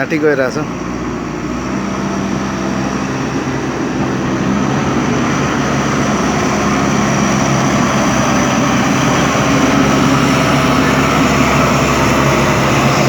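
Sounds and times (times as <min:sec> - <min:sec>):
backhoe diesel engine under load: 0:00.0 - 0:13.0.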